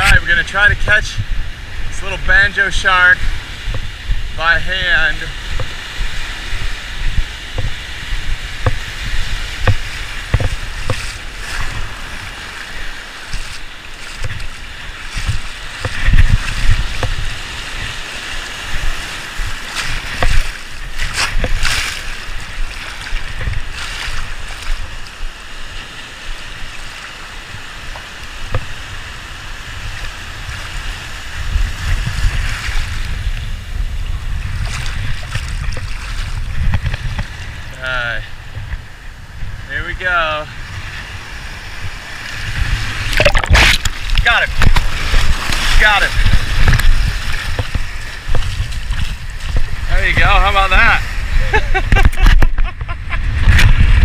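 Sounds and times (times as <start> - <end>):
surf washing and splashing: 0.0 - 54.0
wind rumbling on microphone: 0.0 - 54.0.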